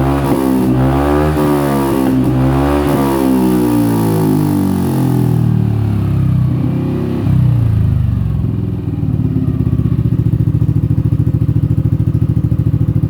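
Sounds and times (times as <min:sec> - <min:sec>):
scooter engine revving and idling: 0:00.0 - 0:13.0.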